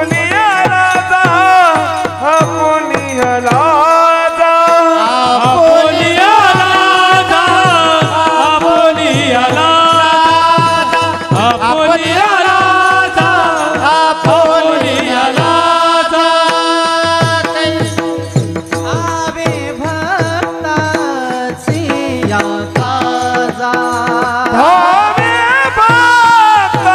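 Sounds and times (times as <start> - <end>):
drum beat: 0.0 - 26.9
man singing: 0.0 - 26.9.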